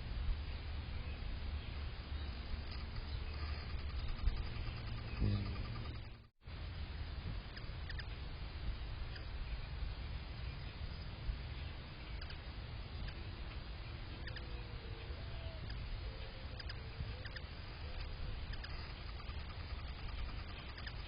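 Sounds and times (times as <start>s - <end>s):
steady low rumble: 0.0s - 21.0s
faint bird chirps: 0.5s - 6.3s, 7.3s - 8.2s, 9.0s - 21.0s.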